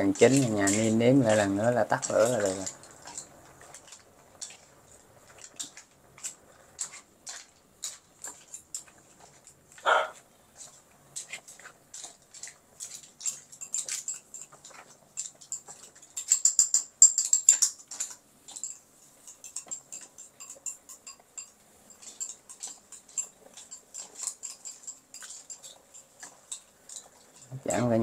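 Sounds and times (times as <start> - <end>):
oil crackling and popping in pan: 0.0 - 9.8, 10.4 - 28.0.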